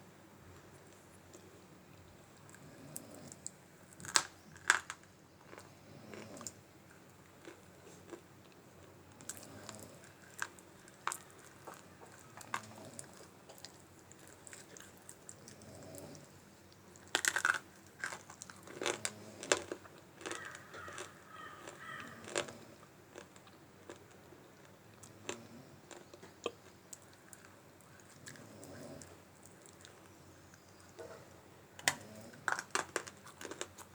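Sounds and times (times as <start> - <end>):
clay being chewed with crunches: 0.6 - 33.9.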